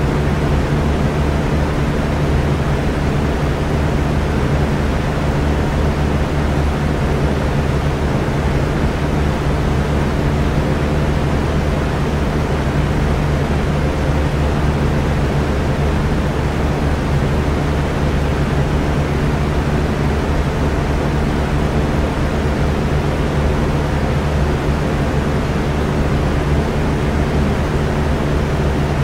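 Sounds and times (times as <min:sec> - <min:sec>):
electric fan running: 0:00.0 - 0:29.0.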